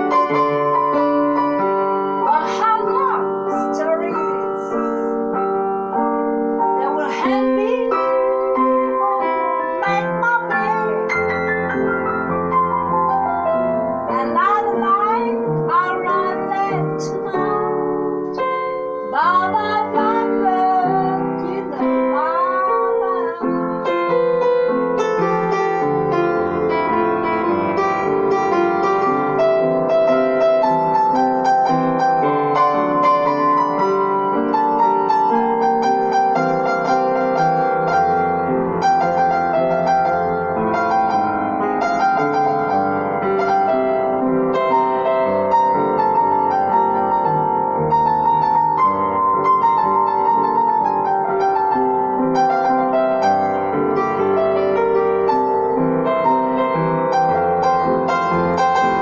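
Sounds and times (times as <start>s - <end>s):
solo grand piano: 0.0s - 59.0s.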